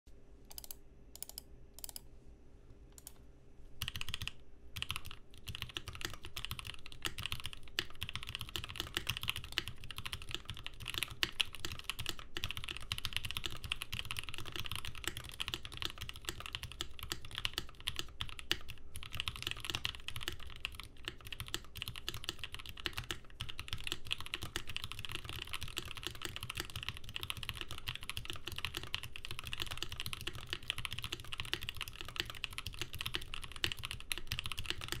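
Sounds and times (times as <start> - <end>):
typing on mechanical keyboard: 3.8 - 35.0.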